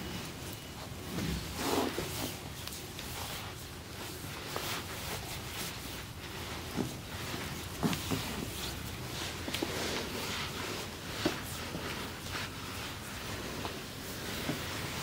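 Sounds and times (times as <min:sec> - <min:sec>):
hands rubbing skin: 0:01.5 - 0:15.0.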